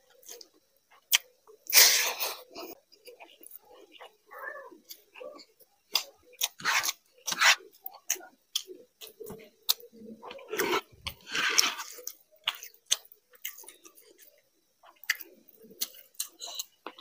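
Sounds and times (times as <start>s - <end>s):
man chewing with mouth smacks: 0.1s - 4.2s, 4.8s - 17.0s.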